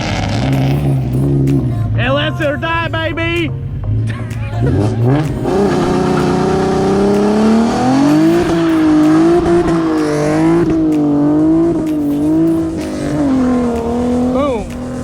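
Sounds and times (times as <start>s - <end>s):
spinning tyres hissing: 0.0s - 2.6s, 3.6s - 15.0s
car engine revving: 0.0s - 15.0s.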